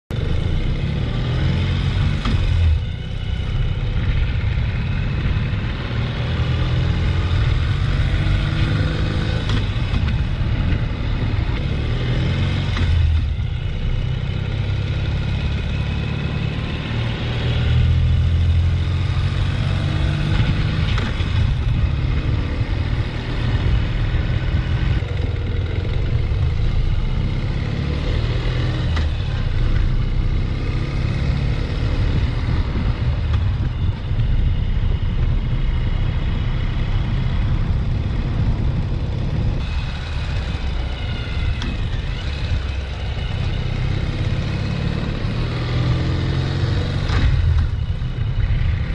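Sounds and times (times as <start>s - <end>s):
motorcycle engine rumbling: 0.1s - 48.9s.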